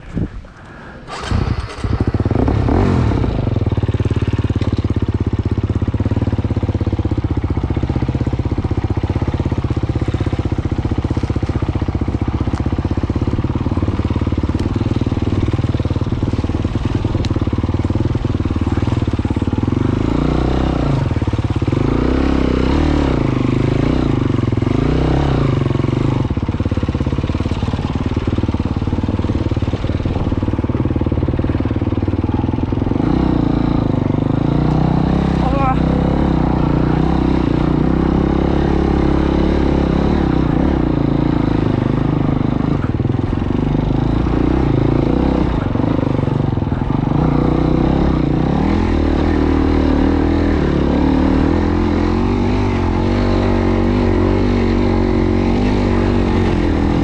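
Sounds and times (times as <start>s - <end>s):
dirt bike engine revving: 1.1s - 57.0s.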